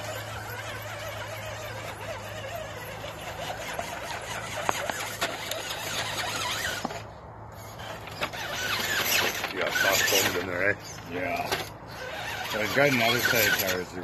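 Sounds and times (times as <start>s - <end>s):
tires knocking on wood: 0.0s - 13.7s
toy car electric motor hum: 0.0s - 14.0s.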